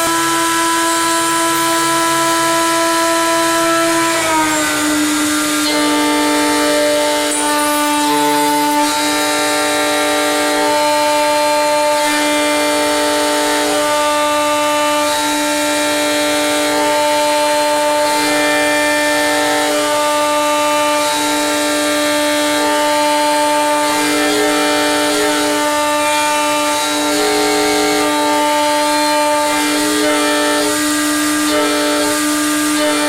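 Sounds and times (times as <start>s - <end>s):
milling machine cutting metal: 0.0s - 33.0s.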